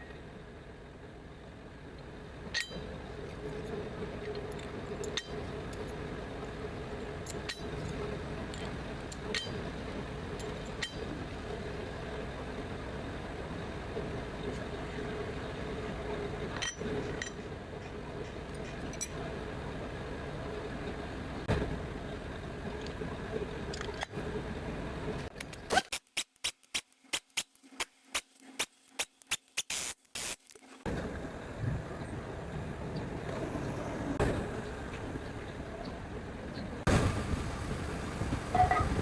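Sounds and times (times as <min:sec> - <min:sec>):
workshop background hum: 0:00.0 - 0:39.0.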